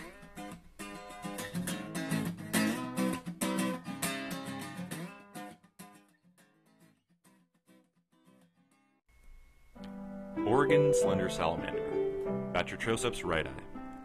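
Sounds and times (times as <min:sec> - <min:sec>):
strummed and plucked guitar: 0:00.0 - 0:09.0, 0:09.8 - 0:14.0.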